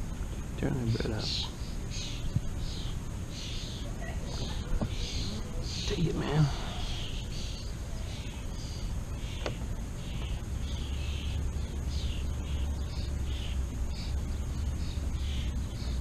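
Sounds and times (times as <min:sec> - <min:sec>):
birds calling: 0:00.0 - 0:16.0
low steady hum: 0:00.0 - 0:16.0.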